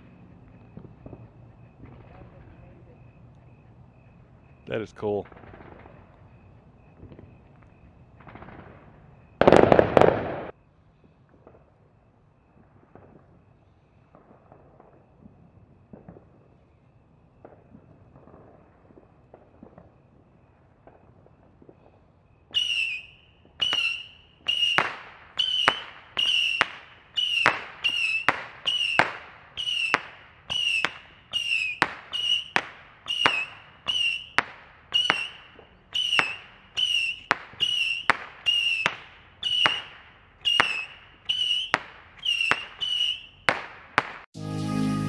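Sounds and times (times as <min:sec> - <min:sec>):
firework whistling pops: 0:00.0 - 0:44.3.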